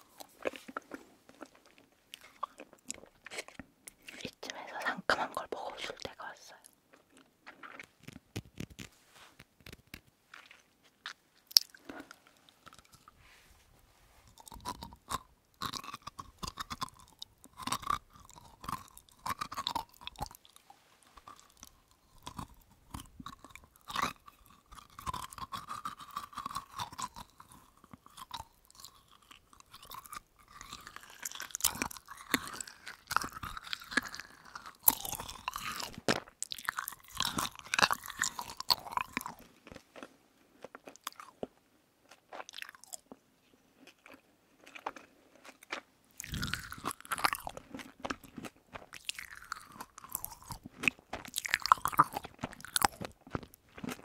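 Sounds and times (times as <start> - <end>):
chewing gummy candy with crunches: 0.0 - 13.2, 14.2 - 54.0.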